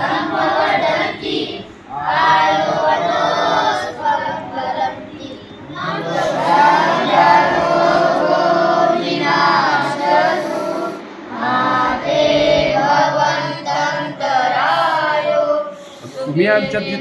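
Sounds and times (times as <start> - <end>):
boys chanting in unison: 0.0 - 17.0.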